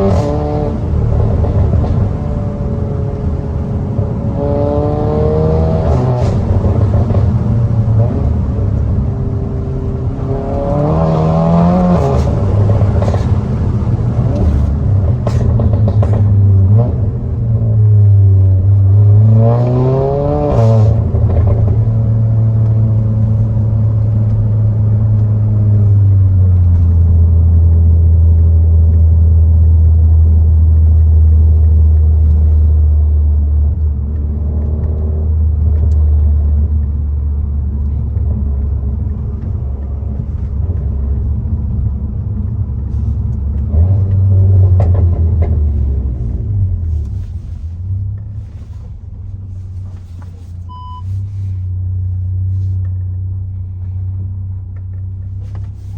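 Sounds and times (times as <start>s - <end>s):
car engine and exhaust revving: 0.0s - 55.9s
exhaust cracks: 0.0s - 55.9s.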